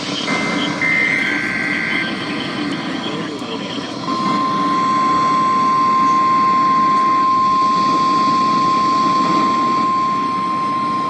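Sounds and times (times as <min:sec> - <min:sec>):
radio static hiss: 0:00.0 - 0:10.2
high-pitched alarm tone: 0:00.0 - 0:11.0.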